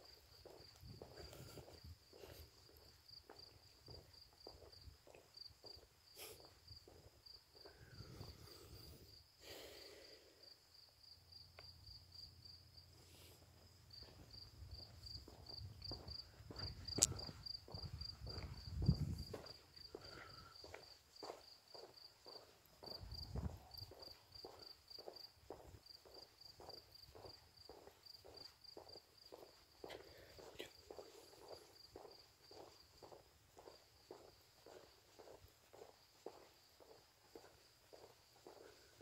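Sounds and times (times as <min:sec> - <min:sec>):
footsteps: 0:00.0 - 0:08.8, 0:13.0 - 0:39.0
crickets chirping: 0:00.0 - 0:39.0.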